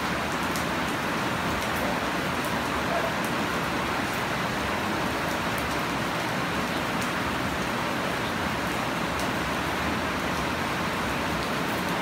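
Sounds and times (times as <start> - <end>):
heavy rain on plants and soil: 0.0 - 12.0.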